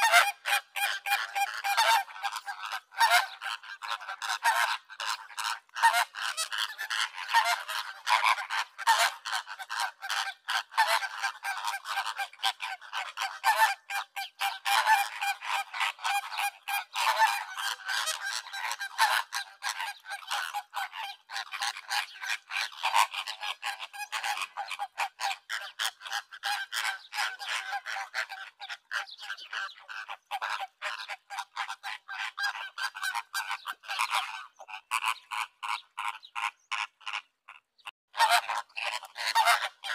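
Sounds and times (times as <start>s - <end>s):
flamingos calling: 0.0s - 37.6s, 38.2s - 39.9s.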